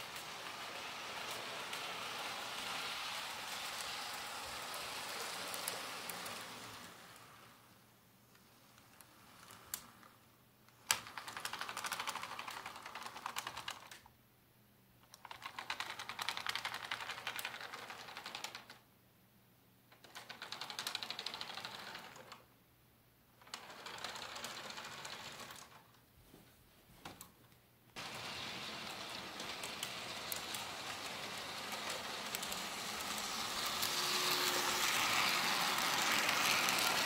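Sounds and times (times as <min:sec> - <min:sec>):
model train wheels clicking: 0:00.0 - 0:07.6, 0:08.6 - 0:10.1, 0:10.7 - 0:14.1, 0:15.1 - 0:18.8, 0:19.9 - 0:22.4, 0:23.4 - 0:25.9, 0:28.0 - 0:37.0.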